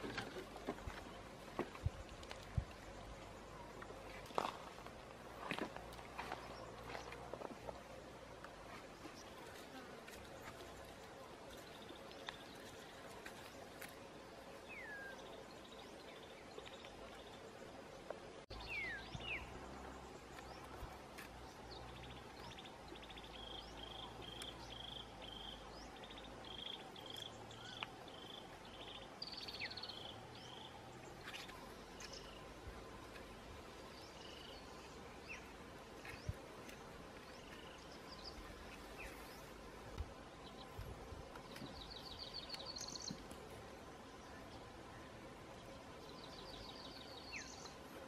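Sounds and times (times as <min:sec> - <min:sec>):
birds chirping: 0:00.0 - 0:48.0
faint insect hum: 0:00.0 - 0:48.0.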